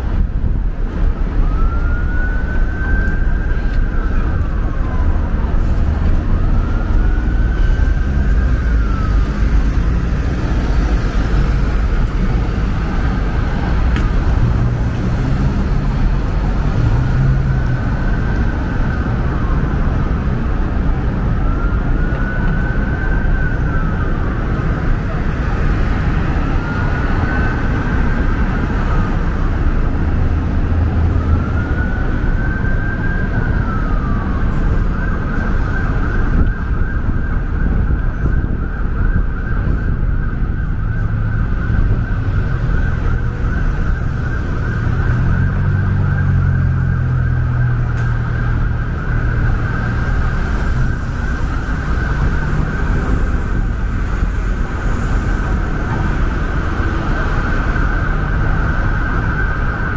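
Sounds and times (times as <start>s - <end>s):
emergency vehicle siren: 0.0s - 59.9s
traffic rumble: 0.0s - 59.9s.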